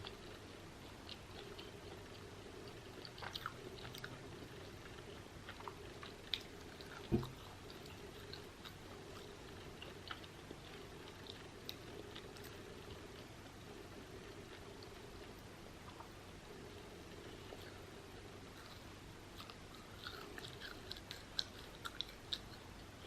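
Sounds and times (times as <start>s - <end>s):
crunchy chewing: 0.0s - 23.0s.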